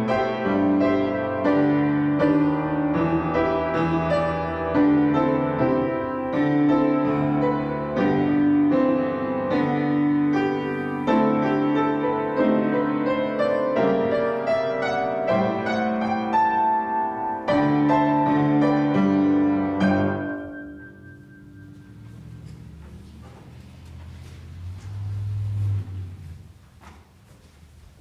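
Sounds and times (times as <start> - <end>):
piano-like keyboard chords: 0.0 - 26.6.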